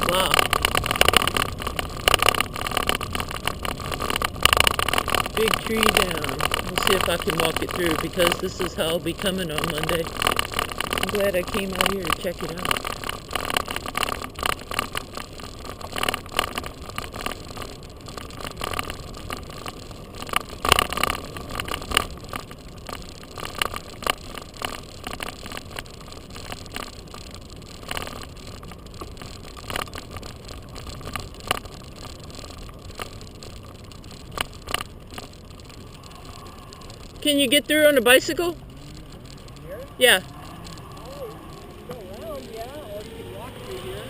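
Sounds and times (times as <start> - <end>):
clicks and rattles: 0.0 - 43.2
bicycle rolling over debris: 0.0 - 44.0.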